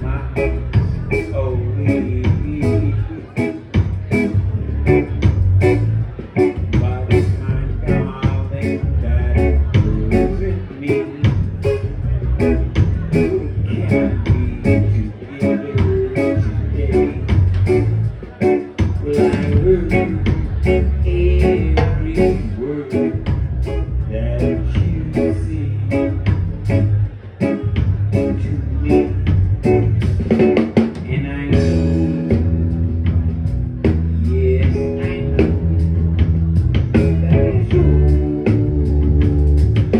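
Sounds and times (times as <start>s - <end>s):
held bass and guitar notes: 0.0s - 39.9s
live band playing: 0.0s - 39.9s.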